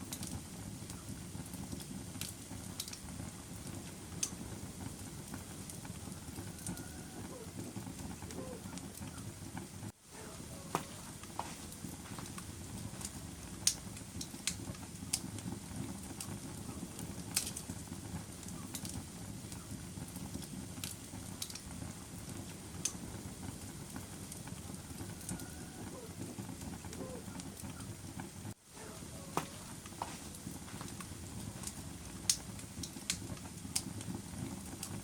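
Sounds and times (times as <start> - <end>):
fire crackling in fireplace: 0.0 - 35.0.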